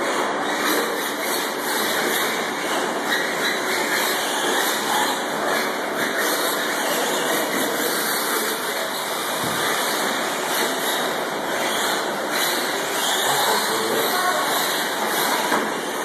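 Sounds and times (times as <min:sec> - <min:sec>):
rc trucks racing: 0:00.0 - 0:16.0.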